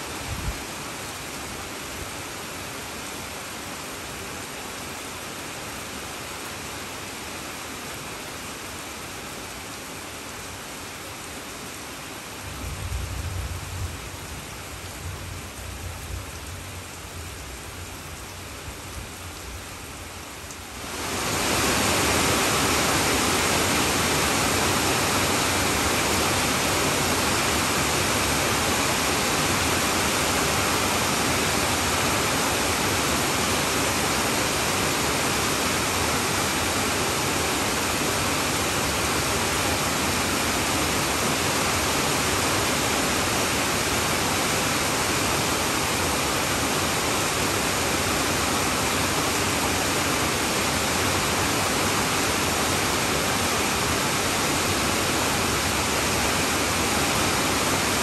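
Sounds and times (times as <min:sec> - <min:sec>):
heavy rain on a tin roof: 0:00.0 - 0:58.0.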